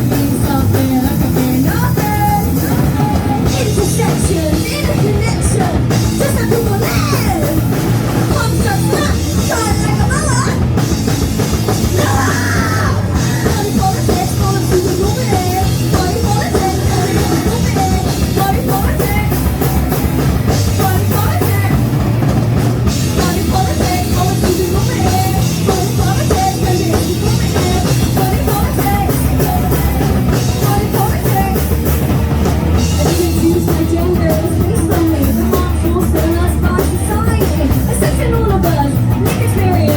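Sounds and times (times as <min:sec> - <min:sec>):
drum kit: 0:00.0 - 0:39.9
live punk rock band: 0:00.0 - 0:39.9.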